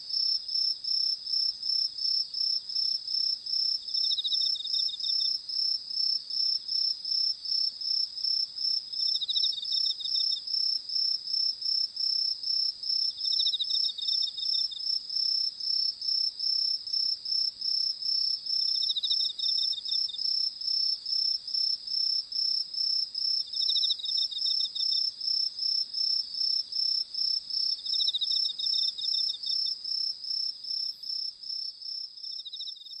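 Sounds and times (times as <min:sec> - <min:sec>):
crickets chirping: 0:00.0 - 0:33.0
insect trill: 0:00.1 - 0:33.0.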